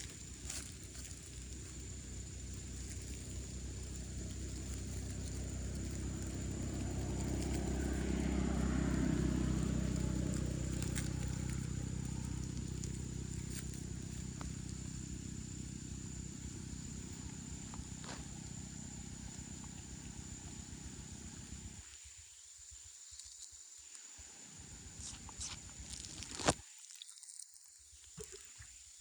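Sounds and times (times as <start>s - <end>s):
engine running: 0.0s - 21.9s, 24.4s - 26.6s.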